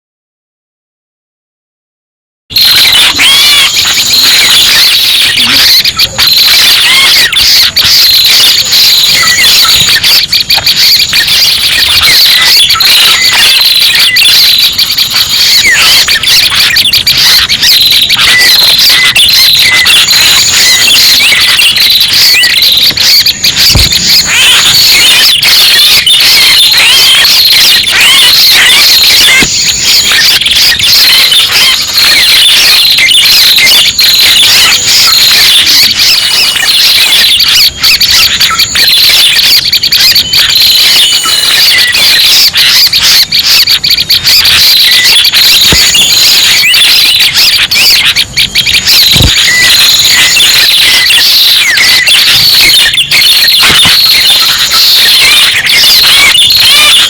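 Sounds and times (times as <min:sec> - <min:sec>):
bird chirping and trilling: 0:02.6 - 0:54.6.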